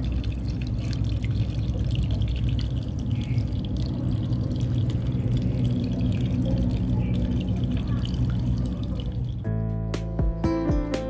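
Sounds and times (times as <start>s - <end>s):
fountain water splashing: 0.0s - 9.5s
steady low hum: 0.0s - 9.7s.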